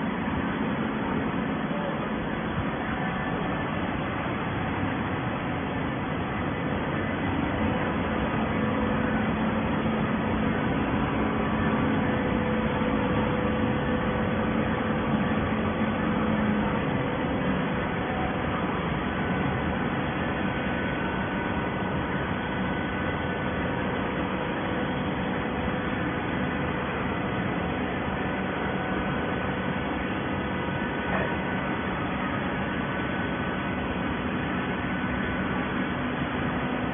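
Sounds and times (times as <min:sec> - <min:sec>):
baler mechanical drone: 0:00.0 - 0:36.9.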